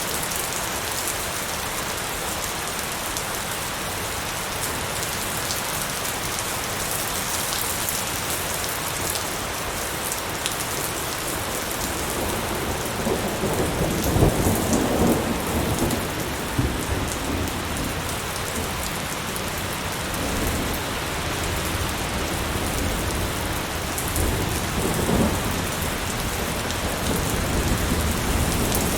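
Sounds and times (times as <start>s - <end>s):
light rain pattering: 0.0s - 28.9s.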